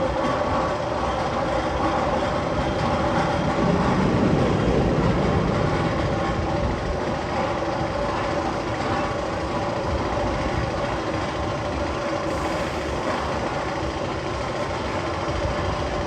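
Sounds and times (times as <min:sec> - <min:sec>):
roller coaster rumbling on track: 0:00.0 - 0:16.0.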